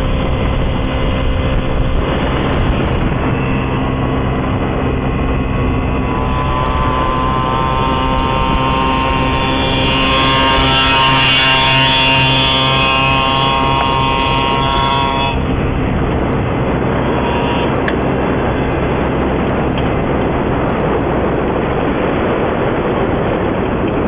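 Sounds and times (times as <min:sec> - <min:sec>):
even rushing noise: 0:00.0 - 0:24.0.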